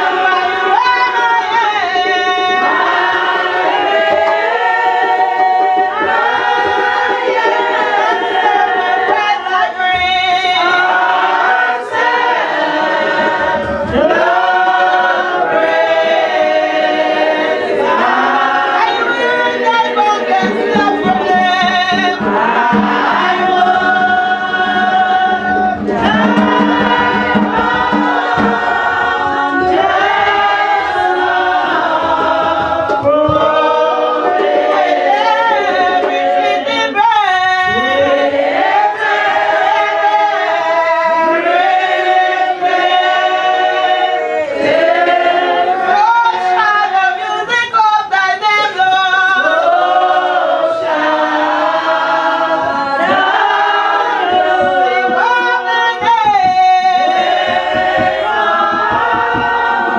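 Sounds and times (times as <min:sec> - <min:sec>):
congregation singing: 0:00.0 - 0:59.9.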